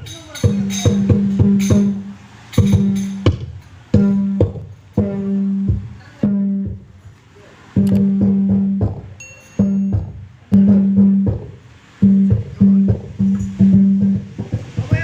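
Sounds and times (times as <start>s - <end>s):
music through pa system: 0.0s - 15.0s.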